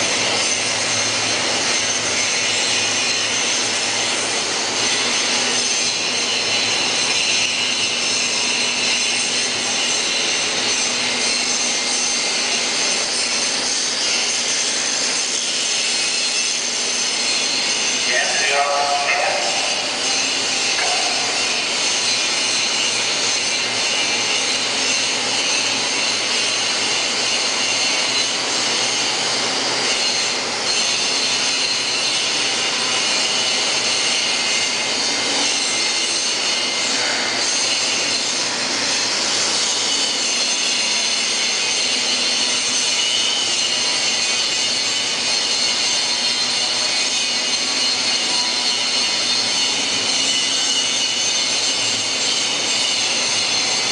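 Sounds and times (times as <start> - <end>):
high-pitched machinery whine: 0.0 - 53.9.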